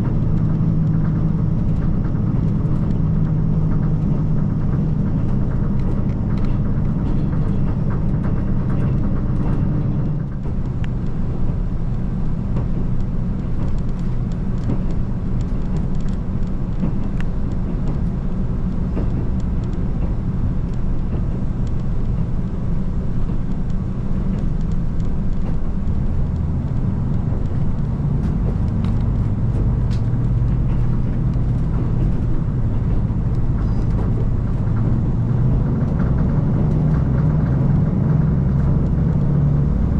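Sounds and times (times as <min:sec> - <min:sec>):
diesel engine drone: 0:00.0 - 0:39.9
train wheels on rails: 0:00.0 - 0:39.9.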